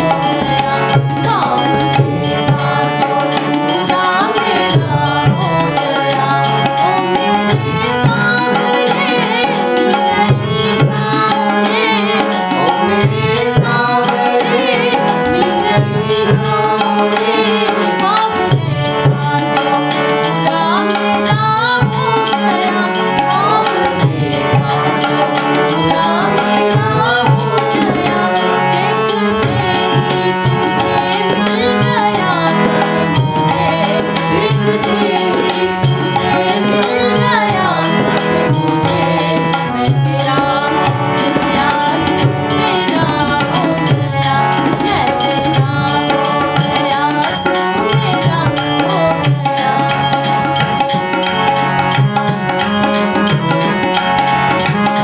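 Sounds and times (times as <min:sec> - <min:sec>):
harmonium chords: 0:00.0 - 0:55.0
tabla rhythm: 0:00.0 - 0:55.0
woman singing: 0:00.0 - 0:55.0.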